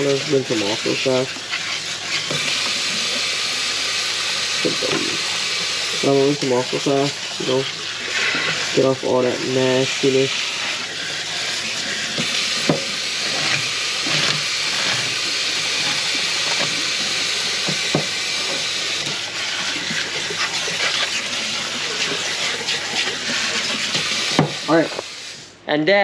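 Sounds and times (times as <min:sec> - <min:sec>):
tap water running into sink: 0:00.0 - 0:25.4.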